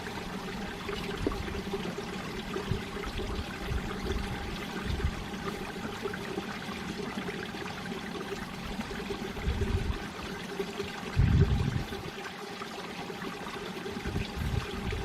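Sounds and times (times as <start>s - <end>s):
stream rushing and trickling: 0.0s - 15.0s.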